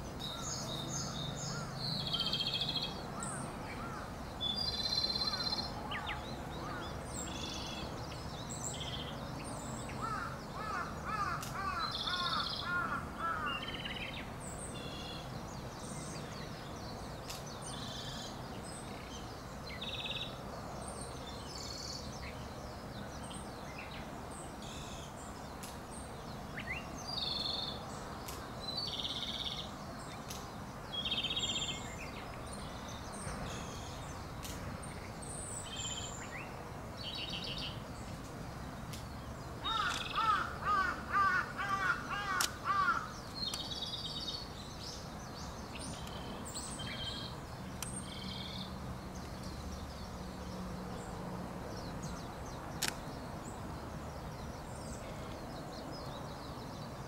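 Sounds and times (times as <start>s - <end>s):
bird singing rattling phrases: 0.0s - 20.4s, 21.0s - 57.0s.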